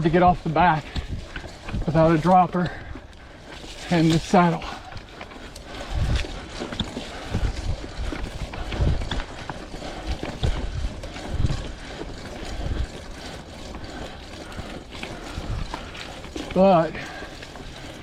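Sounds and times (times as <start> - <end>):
bike rattles and clicks: 0.0 - 18.0
bike tyre and trail noise: 0.0 - 18.0.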